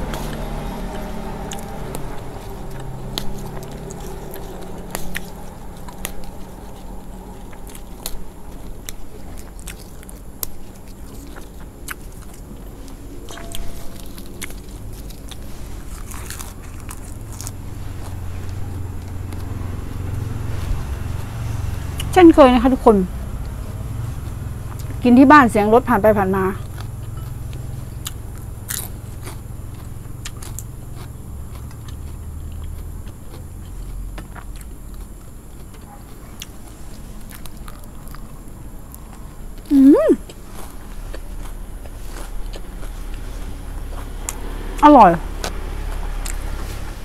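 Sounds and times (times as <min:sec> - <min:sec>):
crunching and chewing of fried food: 0:00.0 - 0:25.2, 0:26.3 - 0:47.0
passing car rumble: 0:00.0 - 0:47.0.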